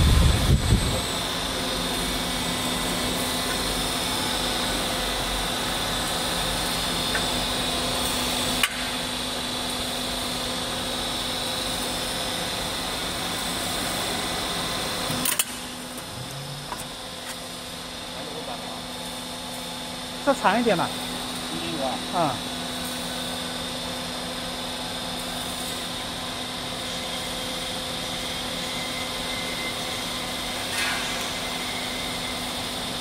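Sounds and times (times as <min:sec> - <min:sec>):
machine motor and pump hum: 0:00.0 - 0:33.0.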